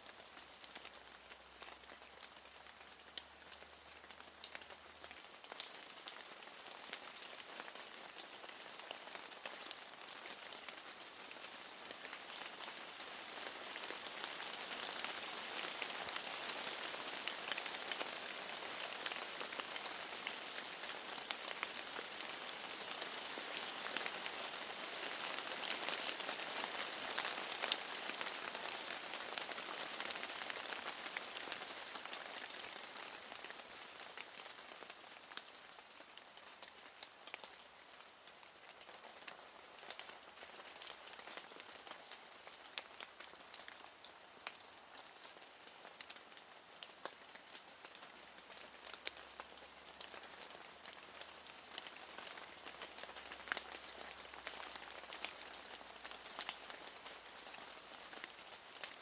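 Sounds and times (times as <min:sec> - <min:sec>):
raindrops ticking: 0:00.0 - 0:59.0
steady rain falling: 0:00.0 - 0:59.0.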